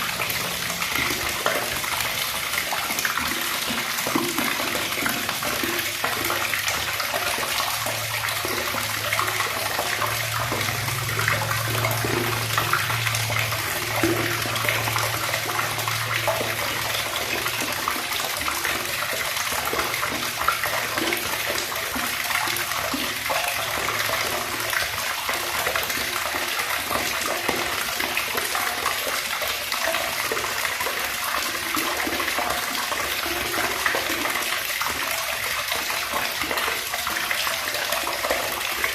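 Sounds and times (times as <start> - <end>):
tap water running: 0.0 - 38.9.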